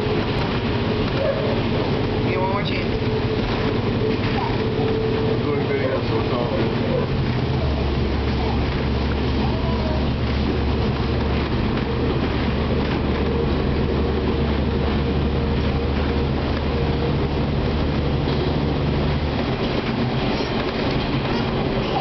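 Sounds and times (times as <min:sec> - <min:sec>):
low motor hum: 0:00.0 - 0:22.0
train wheels rumbling on rail: 0:00.0 - 0:22.0.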